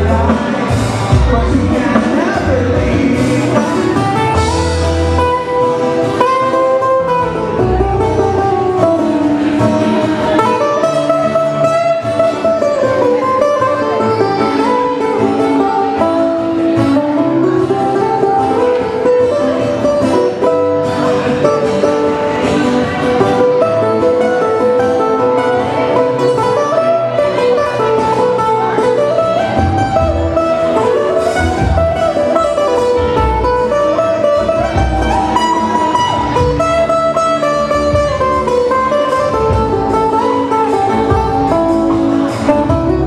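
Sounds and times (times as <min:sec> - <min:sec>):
bass line: 0:00.0 - 0:43.0
guitars strummed and plucked: 0:00.0 - 0:43.0
sliding lead melody: 0:00.0 - 0:43.0.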